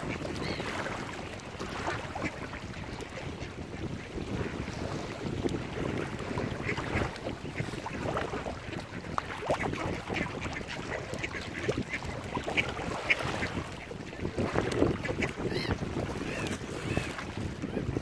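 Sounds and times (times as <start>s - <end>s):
waterbird calls: 0.0s - 5.1s, 5.8s - 18.0s
water moving at shore: 0.0s - 18.0s
wind on microphone: 0.0s - 18.0s.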